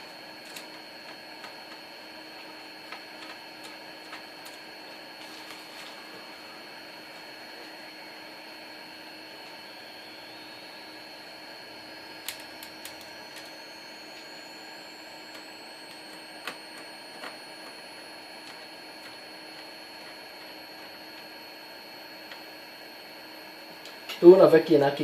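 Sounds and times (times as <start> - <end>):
faint high whine: 0.0 - 25.0.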